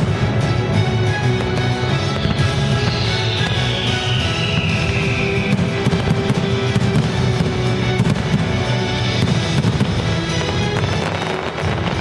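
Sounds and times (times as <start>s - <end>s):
fireworks bangs and crackles: 0.0s - 12.0s
music: 0.0s - 12.0s.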